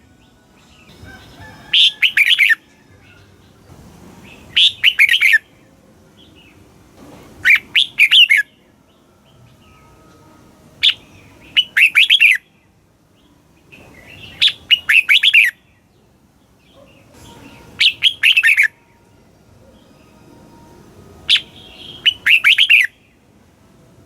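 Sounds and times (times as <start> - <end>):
bird singing warbled notes: 0.0 - 6.8, 7.4 - 23.4.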